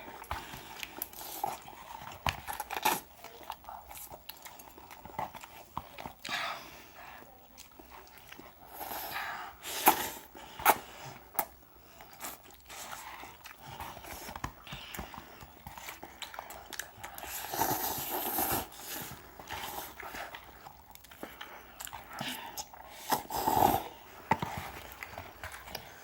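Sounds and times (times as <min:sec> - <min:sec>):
chewing and slurping noodles: 0:00.0 - 0:26.0.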